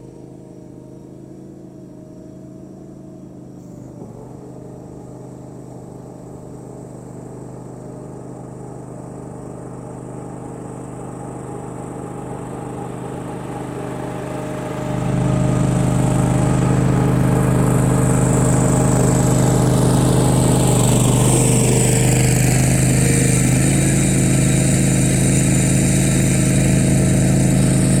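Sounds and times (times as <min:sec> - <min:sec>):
high whir: 0:00.0 - 0:28.0
higher whine sliding down: 0:00.0 - 0:28.0
mower engine hum: 0:00.0 - 0:28.0.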